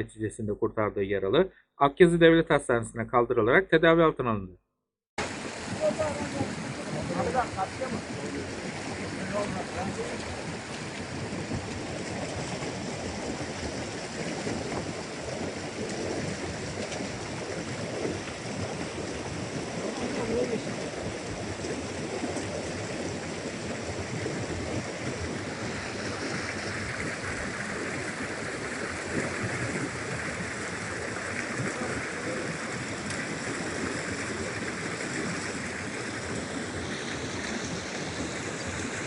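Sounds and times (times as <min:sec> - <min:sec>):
stream water rushing: 0:05.2 - 0:39.0.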